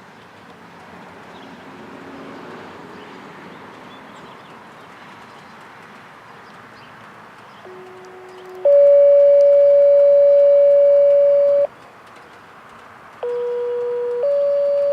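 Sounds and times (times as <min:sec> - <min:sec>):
outdoor background noise: 0:00.0 - 0:14.9.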